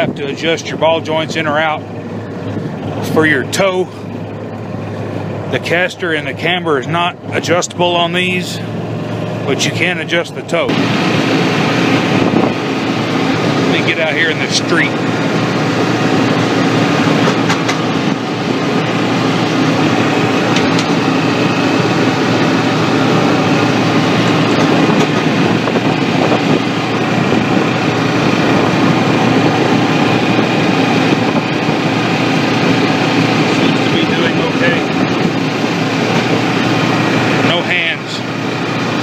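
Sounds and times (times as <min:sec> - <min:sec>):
utility vehicle engine running: 0:00.0 - 0:39.0.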